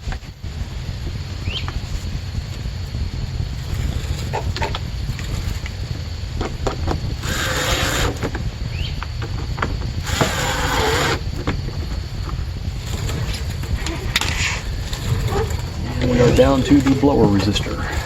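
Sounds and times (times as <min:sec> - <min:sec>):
noisy bursts: 0:00.0 - 0:18.0
steady low rumble: 0:00.0 - 0:18.0.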